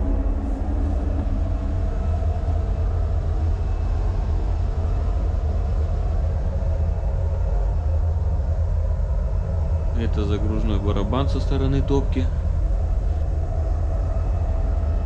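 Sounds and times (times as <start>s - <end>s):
ship engine machinery drone: 0.0s - 15.0s
steady hums: 0.0s - 15.0s.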